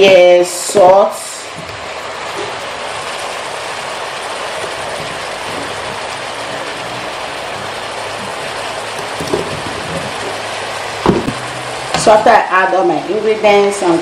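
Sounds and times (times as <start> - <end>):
meat and onions sizzling in a pot: 0.0 - 14.0.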